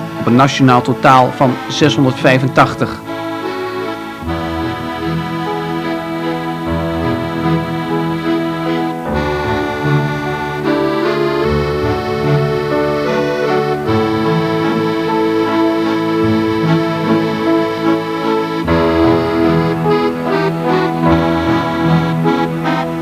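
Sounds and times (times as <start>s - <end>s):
instrumental background music: 0.0s - 23.0s.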